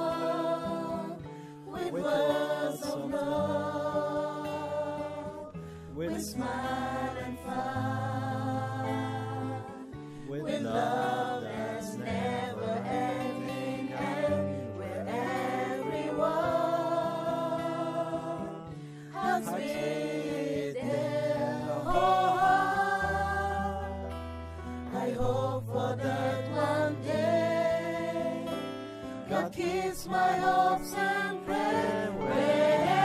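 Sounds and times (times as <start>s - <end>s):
group of voices singing: 0.0s - 33.0s.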